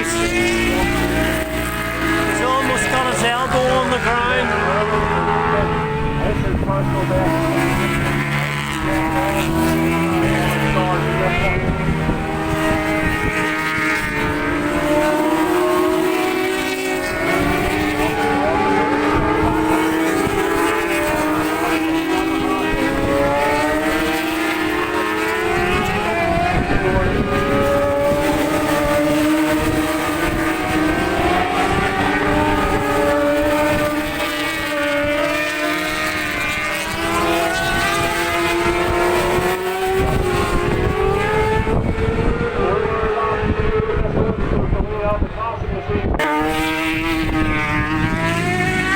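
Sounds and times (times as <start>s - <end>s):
racing motorcycle engines revving: 0.0s - 48.9s
wind buffeting microphone: 0.0s - 48.9s.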